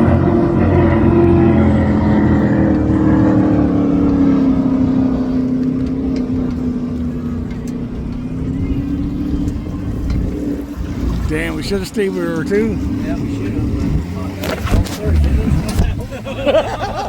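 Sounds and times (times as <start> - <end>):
powerboat engine running loud: 0.0 - 17.0.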